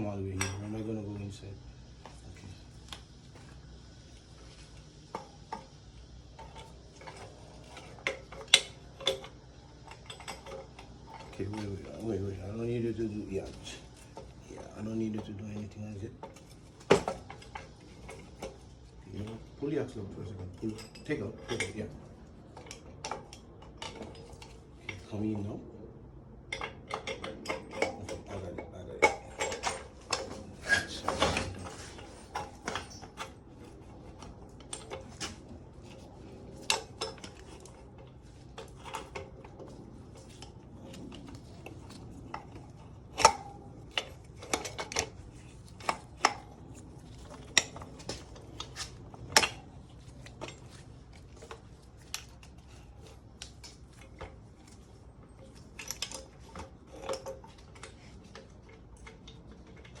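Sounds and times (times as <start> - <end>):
hand tools and metal parts clinking: 0.0 - 25.6, 26.4 - 60.0.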